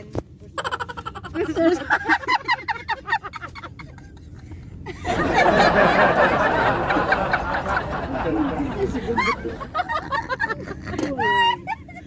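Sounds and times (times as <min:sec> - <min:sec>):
moving car rumble: 0:00.0 - 0:12.0
women laughing: 0:00.6 - 0:12.0.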